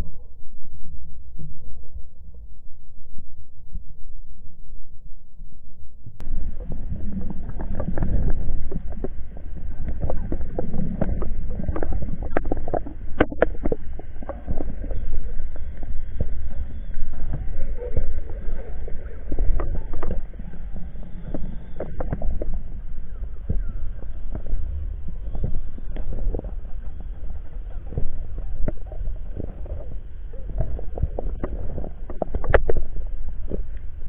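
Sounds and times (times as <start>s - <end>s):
muffled underwater rumble: 0.0s - 34.0s
underwater clicks and knocks: 6.2s - 33.9s.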